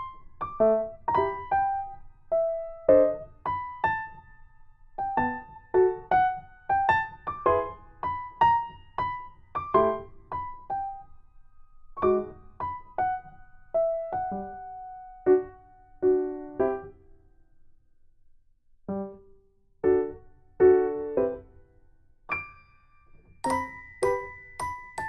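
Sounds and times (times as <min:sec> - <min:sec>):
solo piano melody: 0:00.0 - 0:17.4, 0:18.8 - 0:25.0.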